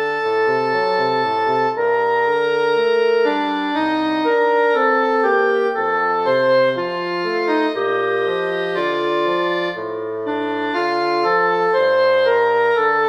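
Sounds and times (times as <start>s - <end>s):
bassoon playing quick notes: 0.0s - 13.0s
clarinets playing slow melody: 0.0s - 13.0s.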